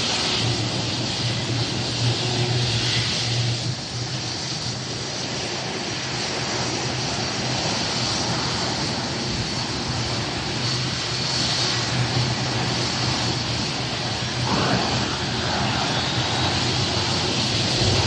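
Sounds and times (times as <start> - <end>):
airliner engines running: 0.0 - 18.0.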